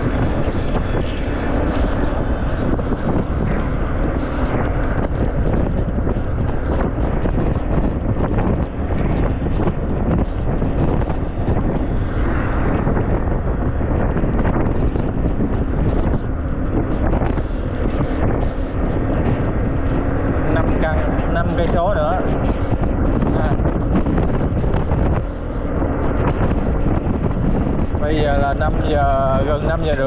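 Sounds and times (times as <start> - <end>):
motorbike engine running: 0.0 - 30.0
wind rushing over microphone: 0.0 - 30.0.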